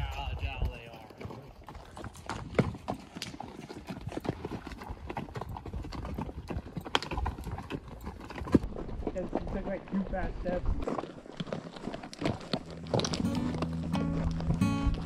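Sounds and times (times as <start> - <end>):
hooves clopping on stone: 0.0 - 15.0.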